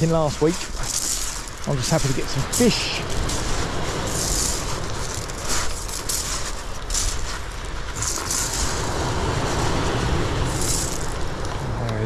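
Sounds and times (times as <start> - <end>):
wind buffeting microphone: 0.0 - 12.0
bursts of hiss: 0.2 - 11.5.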